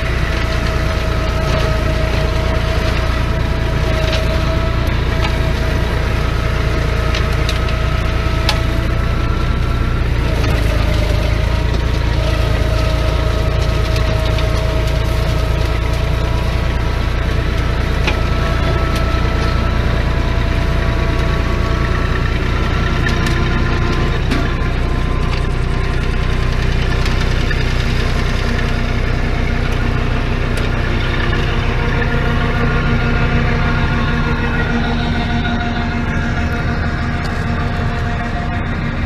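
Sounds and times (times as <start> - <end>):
mower whine: 0.0 - 39.0
tractor with flail mower droning: 0.0 - 39.0.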